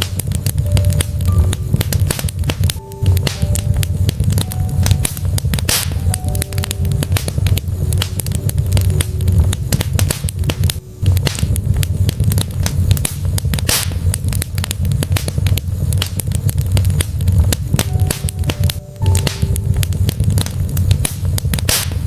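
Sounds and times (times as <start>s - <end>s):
logs crackling in a fireplace: 0.0s - 22.0s
low fire rumble: 0.0s - 22.0s.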